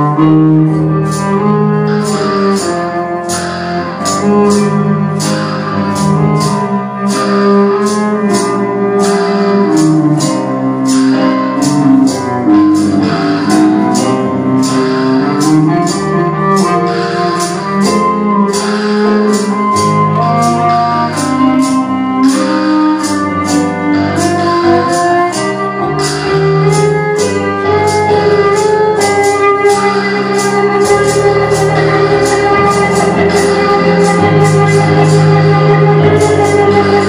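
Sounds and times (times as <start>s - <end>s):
live band playing: 0.0s - 37.0s
steady percussive beat: 0.0s - 37.0s
upright double bass: 0.0s - 37.0s.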